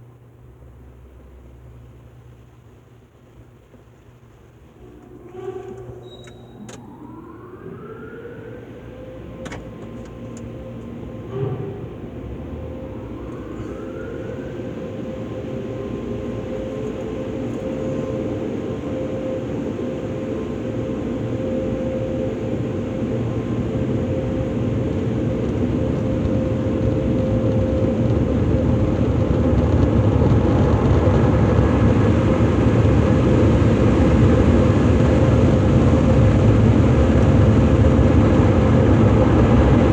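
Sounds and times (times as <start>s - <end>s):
car wash dryer blowers whining: 0.0s - 39.9s.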